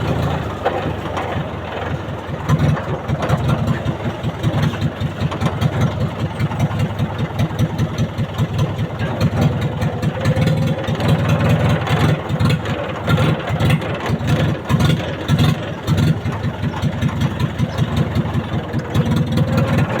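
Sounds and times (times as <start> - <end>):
tractor diesel engine chugging: 0.0 - 20.0.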